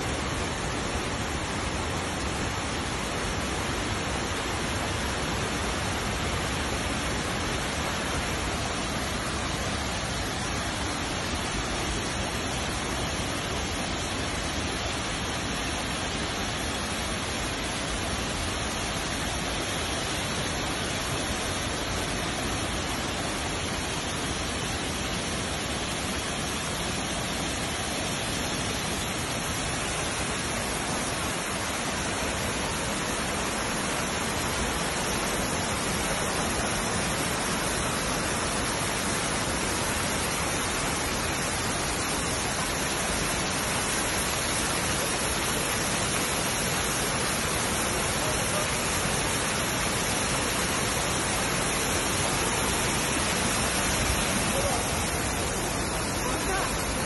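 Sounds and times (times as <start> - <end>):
waterfall pouring over rocks: 0.0 - 57.0.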